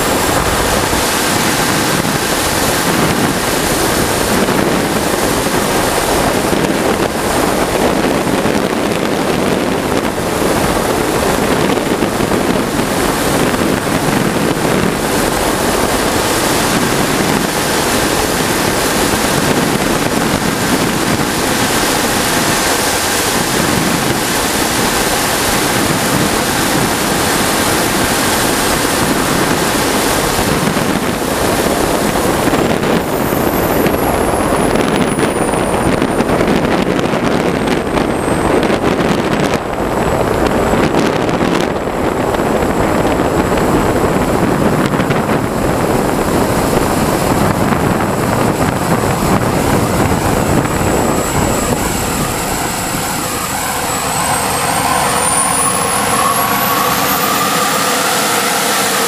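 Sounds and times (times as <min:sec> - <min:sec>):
model jet turbine roaring with whine: 0:00.0 - 0:59.0.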